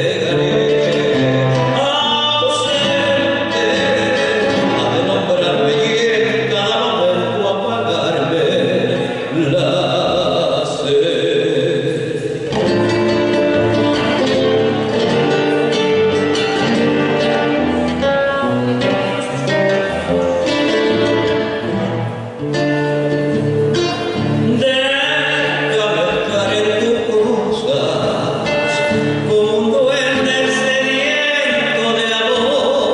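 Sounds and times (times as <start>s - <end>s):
plucked guitar folk music: 0.0s - 32.9s.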